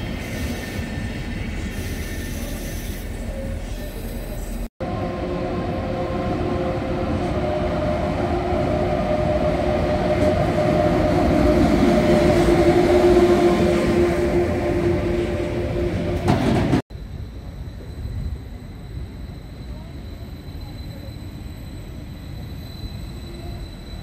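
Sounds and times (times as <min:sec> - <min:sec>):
freight train rumbling past: 0:00.0 - 0:22.2.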